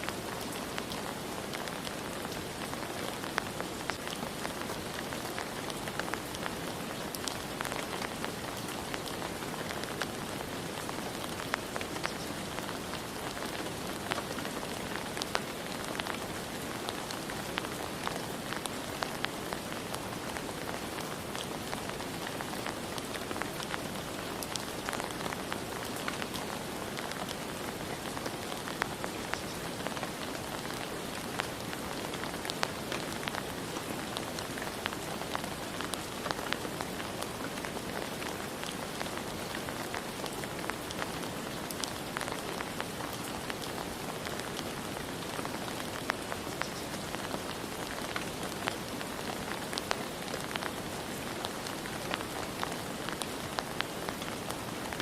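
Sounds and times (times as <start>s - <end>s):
raindrops ticking on hard surface: 0.0s - 55.0s
steady rain falling: 0.0s - 55.0s.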